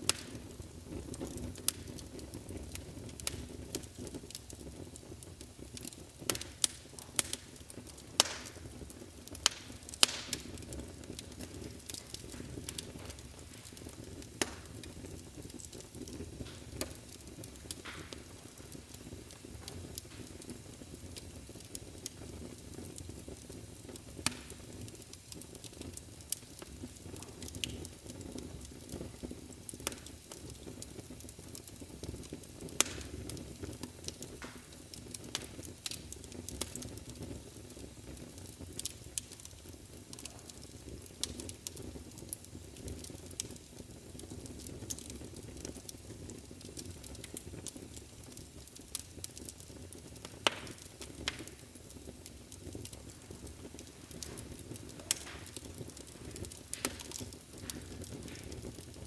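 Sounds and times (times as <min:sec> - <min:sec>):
fire flames rumbling: 0:00.0 - 0:59.0
wood fire crackling and popping: 0:00.0 - 0:59.0.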